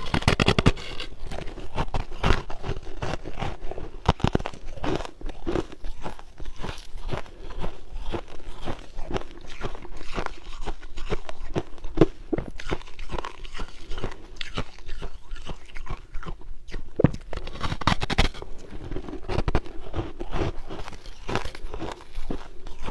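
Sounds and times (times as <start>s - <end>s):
ice being chewed: 0.0s - 22.9s.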